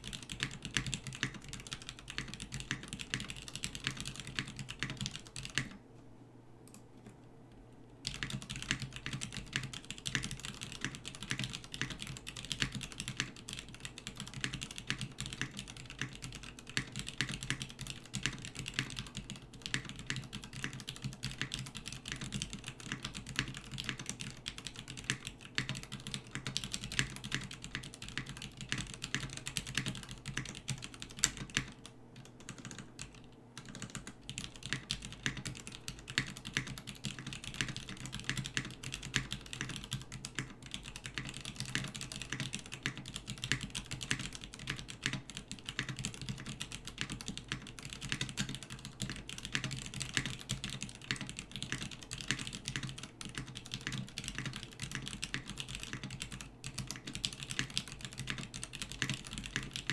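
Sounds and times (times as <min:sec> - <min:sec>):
mechanical keyboard typing: 0:00.0 - 0:05.8, 0:08.0 - 0:59.9.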